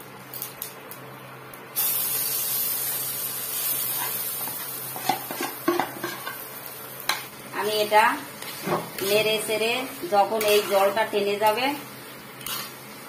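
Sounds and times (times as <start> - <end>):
batter sizzling in hot oil: 1.7 - 13.0.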